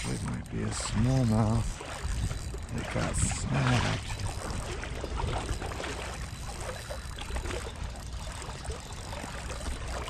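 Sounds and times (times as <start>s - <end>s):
river water lapping on rocks: 0.0s - 10.0s
small water splashes: 0.0s - 10.0s.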